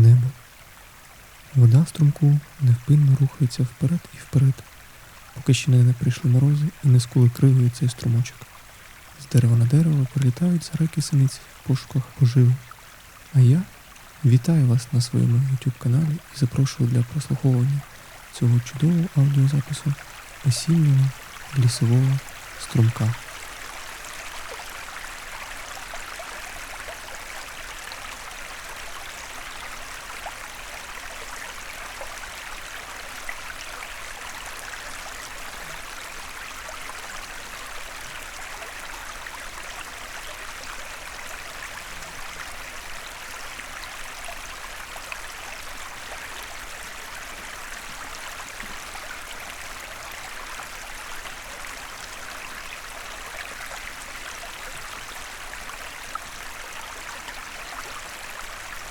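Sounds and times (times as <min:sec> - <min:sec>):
stream rushing and babbling: 0:00.0 - 0:58.9
water splashes: 0:00.0 - 0:58.9.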